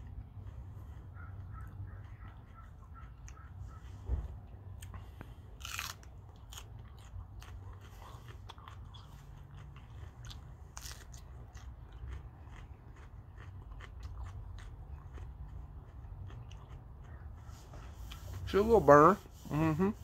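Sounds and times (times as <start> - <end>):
crackly crunch: 0.0 - 18.4
biting and chewing pepper: 0.0 - 18.8.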